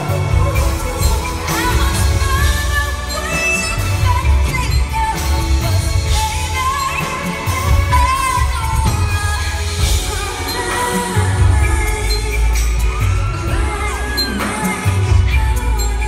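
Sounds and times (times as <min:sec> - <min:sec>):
live band with boomy bass: 0:00.0 - 0:16.0
woman singing ballad: 0:00.0 - 0:16.0.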